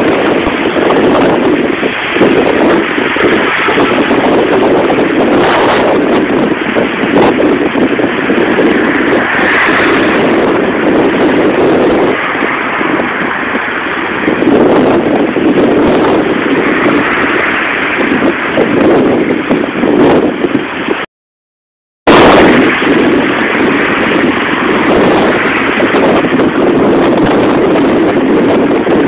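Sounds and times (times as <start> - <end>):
wind buffeting microphone: 0.0 - 21.1, 22.1 - 29.0.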